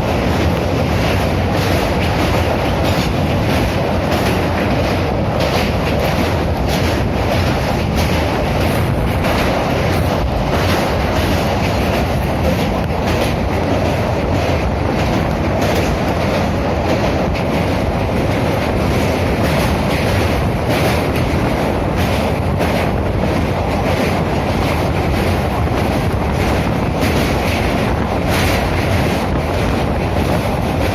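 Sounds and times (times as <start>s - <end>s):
train rumble: 0.0s - 30.9s
wheels clicking over rail joints: 0.0s - 30.9s.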